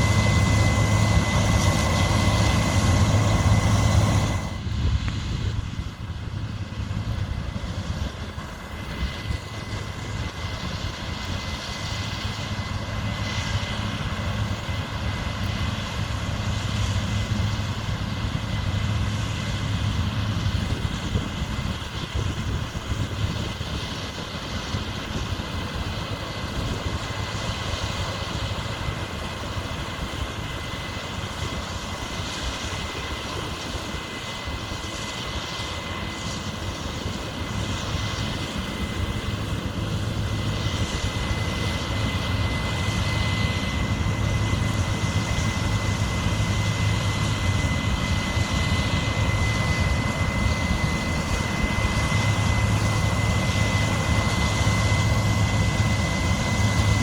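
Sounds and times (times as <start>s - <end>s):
farm machinery engine hum: 0.0s - 57.0s
high-pitched whine: 0.0s - 57.0s.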